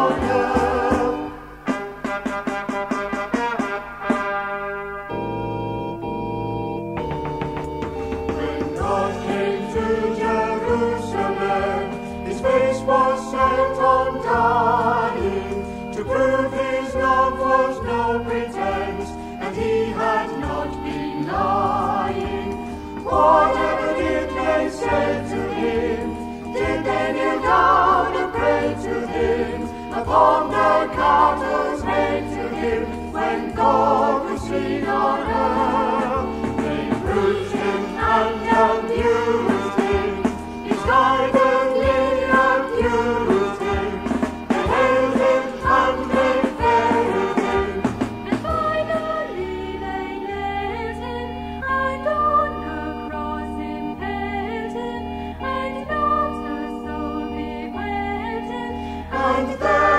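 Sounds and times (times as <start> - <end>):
choir and brass playing a hymn: 0.0 - 6.7, 7.9 - 59.9.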